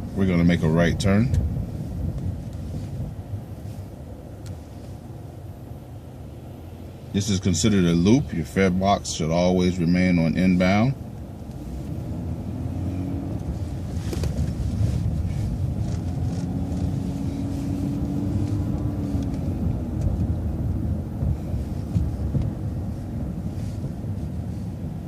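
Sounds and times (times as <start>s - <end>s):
bus engine running: 0.0s - 25.0s
road rumble: 0.0s - 25.0s.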